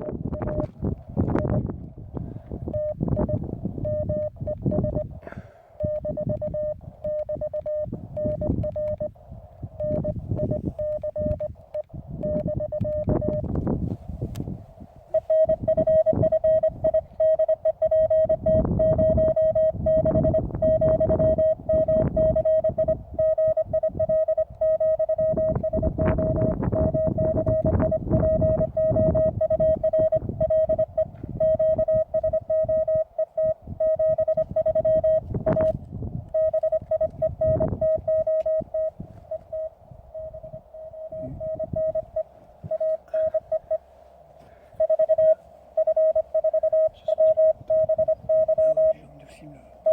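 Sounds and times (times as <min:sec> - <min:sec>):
morse code tone: 0:00.0 - 0:01.6, 0:02.6 - 0:13.5, 0:15.1 - 0:49.9
low rumbling noise: 0:00.0 - 0:49.9.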